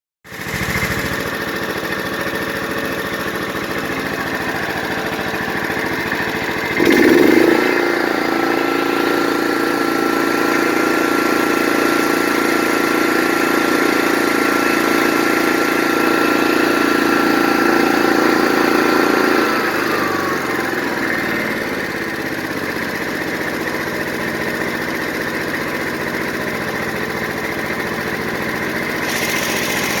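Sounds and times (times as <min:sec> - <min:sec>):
lawn tractor engine running: 0:00.3 - 0:30.0.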